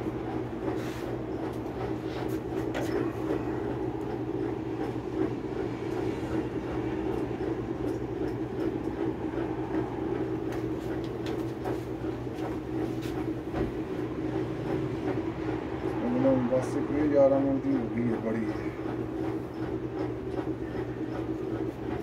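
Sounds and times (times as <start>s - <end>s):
washing machine motor humming: 0.0s - 22.0s.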